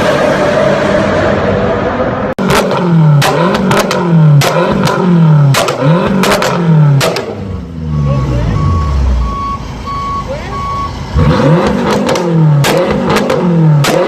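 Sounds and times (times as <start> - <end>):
car engine revving: 0.0 - 9.9, 10.9 - 14.0.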